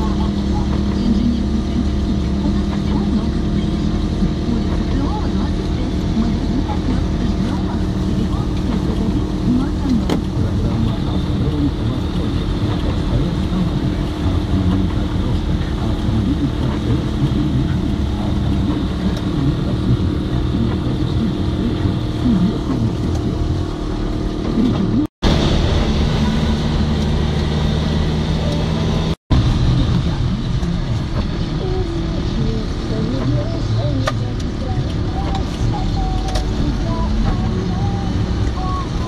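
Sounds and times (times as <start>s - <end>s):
car engine hum: 0.0s - 39.0s
tyres on wet road: 0.0s - 39.0s.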